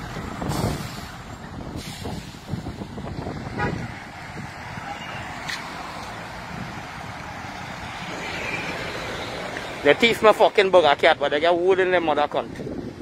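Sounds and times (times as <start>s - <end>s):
cars driving past: 0.0s - 11.2s.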